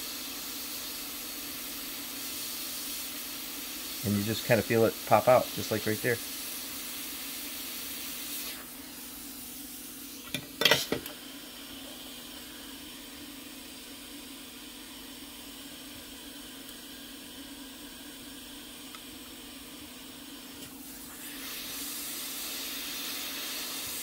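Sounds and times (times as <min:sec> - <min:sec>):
hot air blower hissing: 0:00.0 - 0:24.0.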